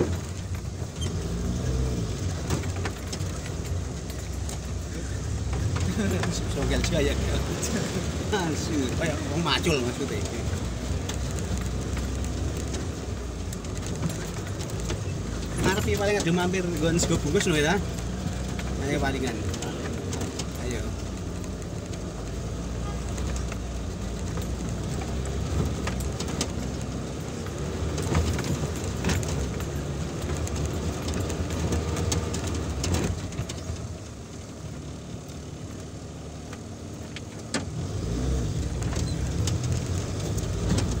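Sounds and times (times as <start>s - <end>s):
knocks and rattles from bumps: 0.0s - 34.2s, 35.2s - 41.0s
off-road vehicle engine running: 0.0s - 41.0s.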